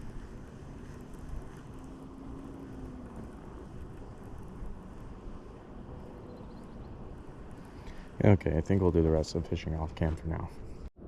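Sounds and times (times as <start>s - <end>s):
faint distant motor hum: 0.0s - 10.9s
wind rumble on microphone: 0.0s - 11.0s.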